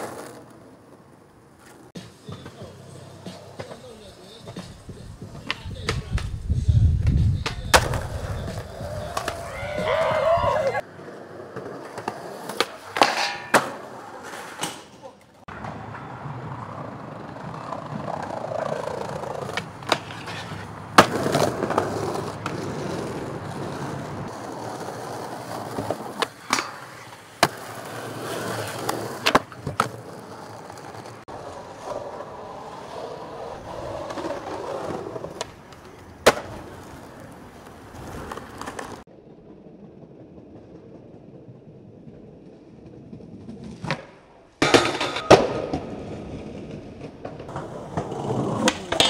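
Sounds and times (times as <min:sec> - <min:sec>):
skateboard clacks: 0:00.0 - 0:39.1, 0:40.2 - 0:49.0
faint street ambience: 0:00.0 - 0:49.0
skateboard wheels rolling on pavement: 0:00.0 - 0:49.0.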